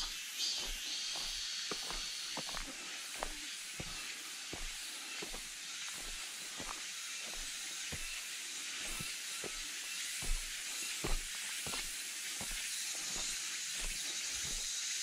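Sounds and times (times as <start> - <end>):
footsteps on rocky dirt trail: 0.0 - 15.0
steady high hiss: 0.0 - 15.0.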